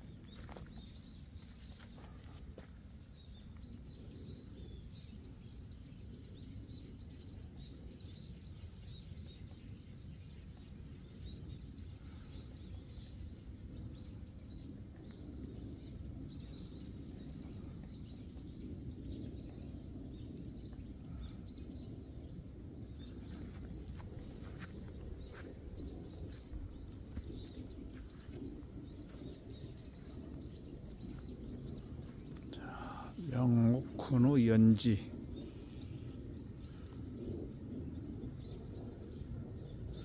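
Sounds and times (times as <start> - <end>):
low background rumble: 0.0 - 40.0
small birds chirping: 0.0 - 40.0.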